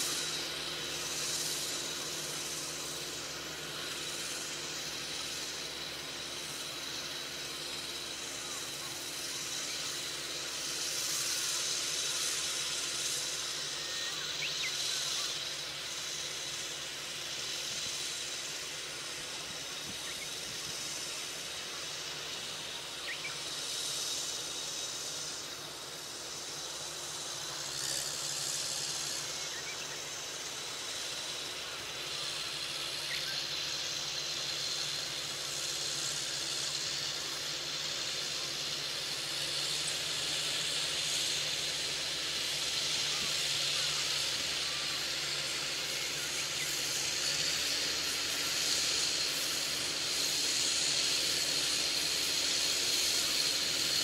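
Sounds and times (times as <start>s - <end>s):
distant tractor engine drone: 0.0s - 54.0s
steady hiss: 0.0s - 54.0s.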